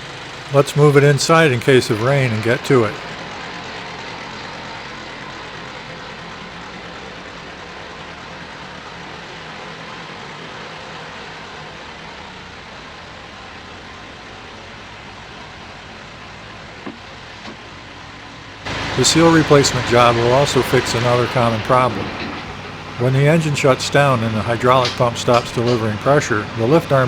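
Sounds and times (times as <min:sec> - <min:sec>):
tractor diesel engine running: 0:00.0 - 0:09.5, 0:13.3 - 0:27.0.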